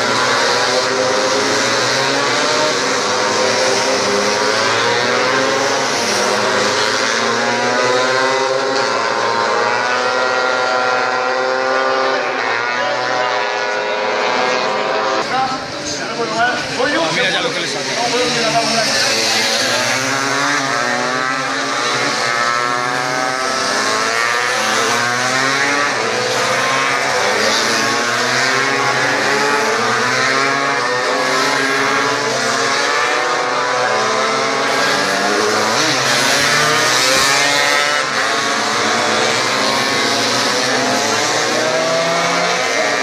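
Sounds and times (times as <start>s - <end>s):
racing motorcycles revving: 0.0s - 43.0s.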